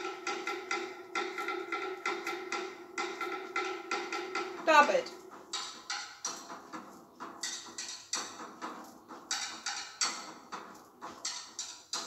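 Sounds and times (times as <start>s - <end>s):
quick drum strikes: 0.0s - 12.0s.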